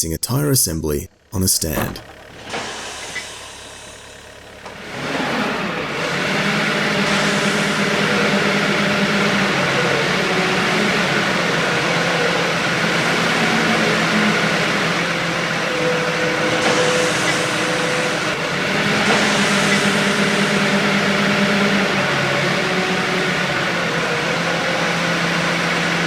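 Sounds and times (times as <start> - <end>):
machine engine humming: 1.1 - 26.0.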